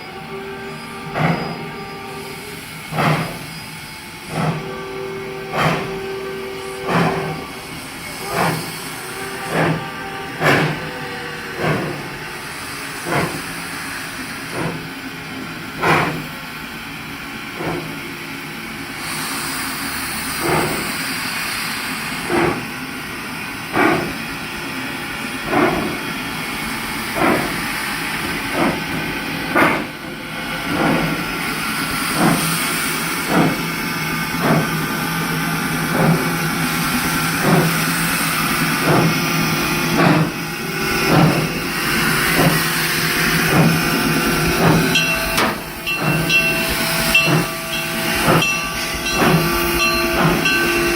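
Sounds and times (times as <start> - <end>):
steady steam hiss: 0.0 - 50.9
steam locomotive chuffing: 0.0 - 50.9.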